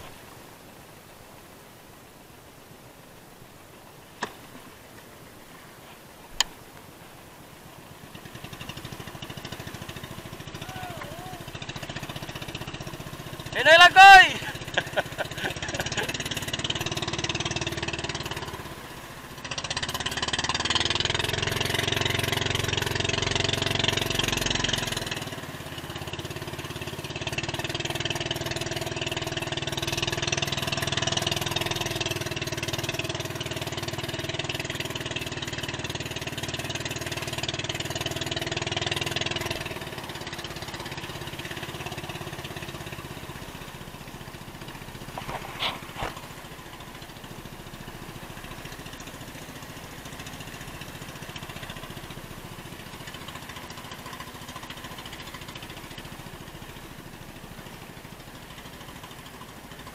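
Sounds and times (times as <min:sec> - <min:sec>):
water rushing along hull: 0:00.0 - 0:59.9
small boat engine running: 0:03.6 - 0:59.9.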